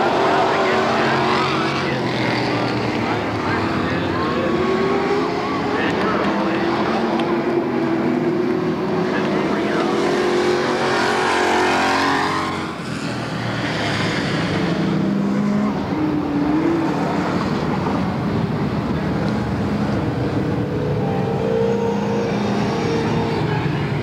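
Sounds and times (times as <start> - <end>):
race car engines running hard: 0.0 - 24.0.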